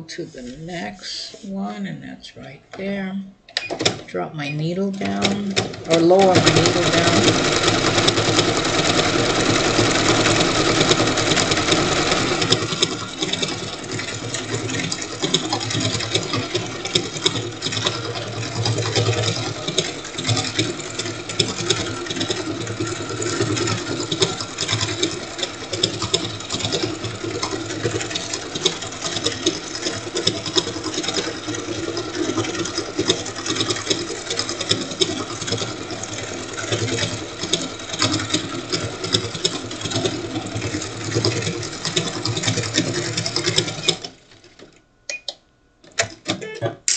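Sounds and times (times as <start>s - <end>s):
sewing machine running: 4.8s - 44.8s.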